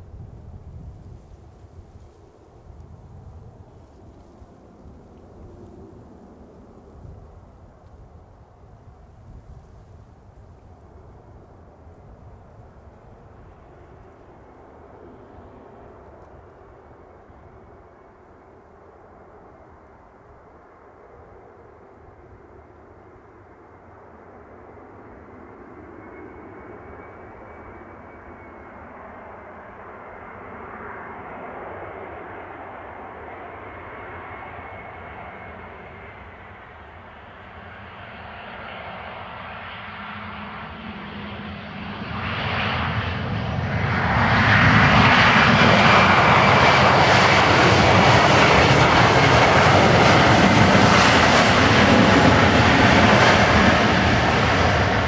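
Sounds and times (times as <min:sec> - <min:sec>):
jet engines with thin whine: 0:00.0 - 0:55.0.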